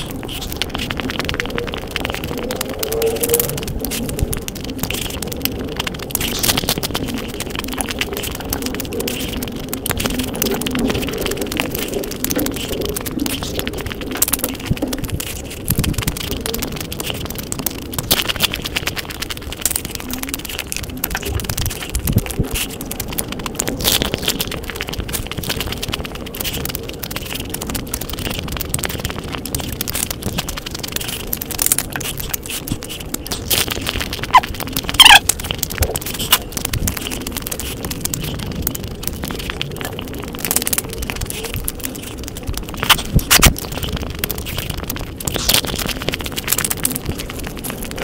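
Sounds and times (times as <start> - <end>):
crunchy snacks being chewed: 0.0 - 48.0.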